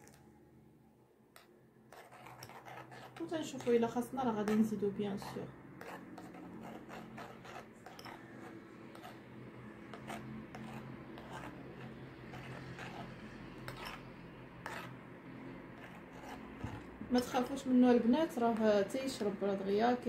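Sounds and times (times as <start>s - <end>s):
spoon scraping ceramic bowl: 1.4s - 15.0s, 15.7s - 19.3s.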